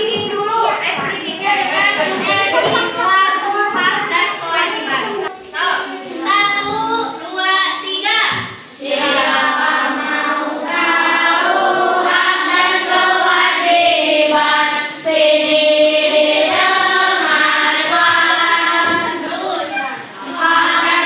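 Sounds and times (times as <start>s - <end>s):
children singing in unison: 0.0s - 21.0s.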